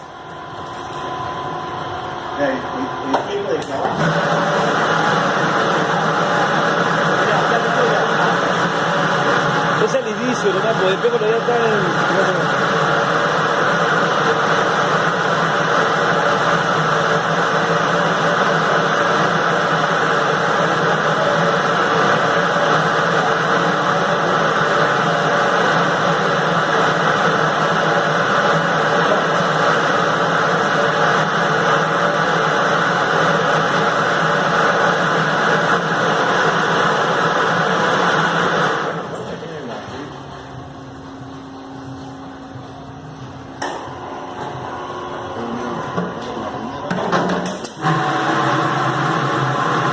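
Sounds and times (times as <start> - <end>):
mechanical hum: 0.0 - 49.9.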